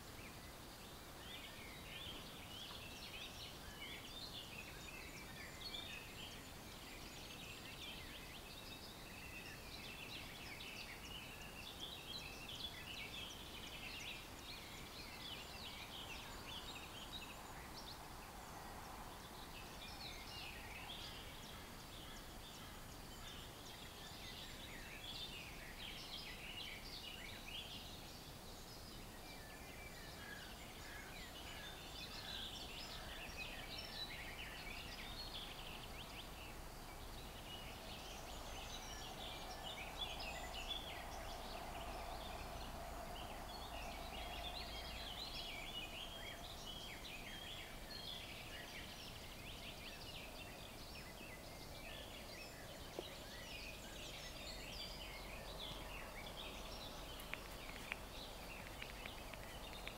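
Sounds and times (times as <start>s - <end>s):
faint background noise: 0.0s - 59.9s
songbirds chirping and trilling: 0.0s - 59.9s.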